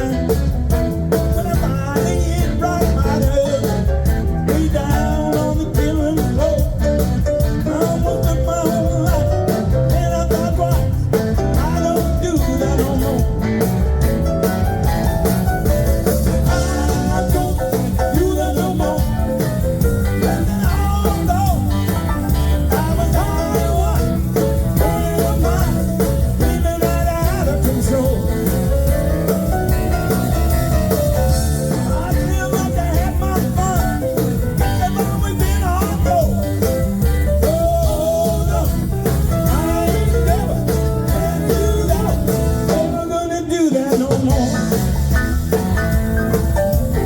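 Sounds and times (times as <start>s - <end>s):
instrumental blues band: 0.0s - 47.0s.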